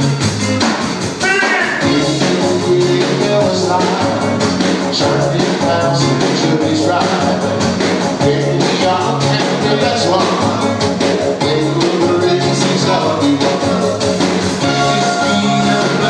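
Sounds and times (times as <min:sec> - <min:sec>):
bass line: 0:00.0 - 0:16.0
drum beat: 0:00.0 - 0:16.0
electric guitar: 0:00.0 - 0:16.0
keyboards: 0:00.0 - 0:16.0
person singing: 0:01.2 - 0:16.0.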